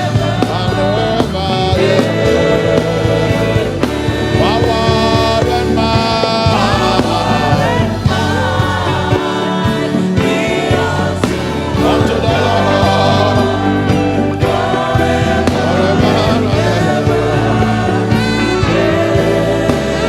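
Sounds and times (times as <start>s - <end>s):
gospel worship music: 0.0s - 20.0s.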